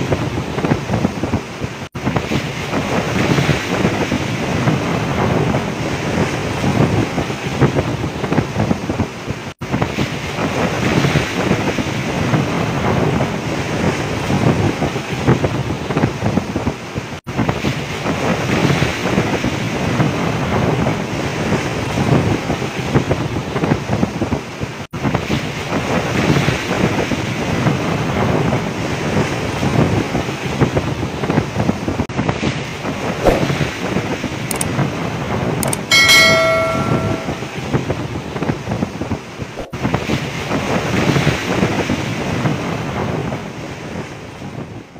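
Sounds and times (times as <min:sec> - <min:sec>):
heavy seas washing against boat: 0:00.0 - 0:44.9
wind blasting microphone: 0:00.0 - 0:44.9.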